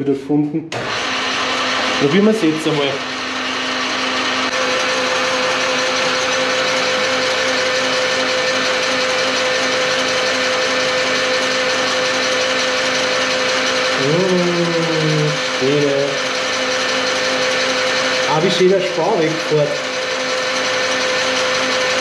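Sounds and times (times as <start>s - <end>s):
lathe gear noise: 0.7s - 22.0s.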